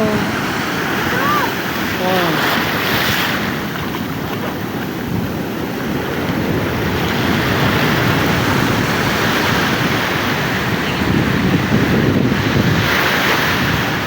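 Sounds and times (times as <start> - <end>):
sea surf breaking on beach: 0.0 - 14.0
wind rumbling on microphone: 0.0 - 14.0.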